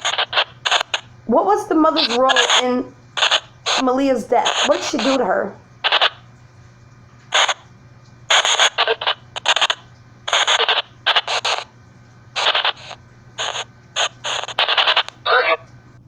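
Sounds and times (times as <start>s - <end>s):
choppy white noise static: 0.0s - 16.0s
steady low hum: 0.0s - 16.0s.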